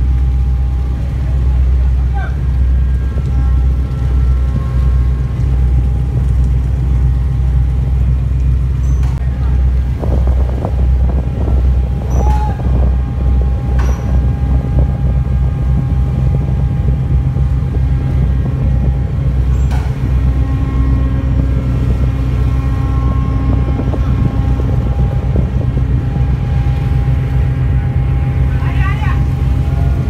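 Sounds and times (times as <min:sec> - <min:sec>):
diesel engines rumbling: 0:00.0 - 0:30.0.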